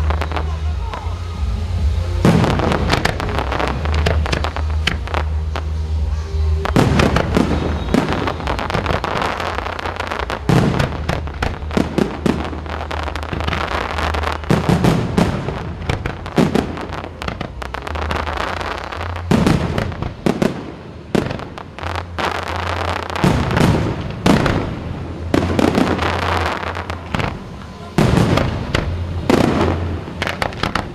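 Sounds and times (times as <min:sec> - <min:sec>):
fireworks booming and crackling: 0:00.0 - 0:30.9.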